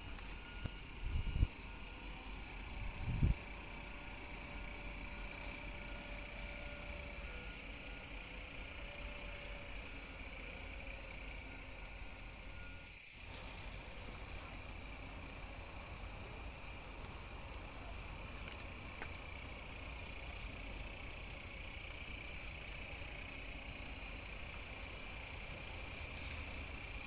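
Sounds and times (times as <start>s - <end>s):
crickets chorus: 0.0s - 27.0s.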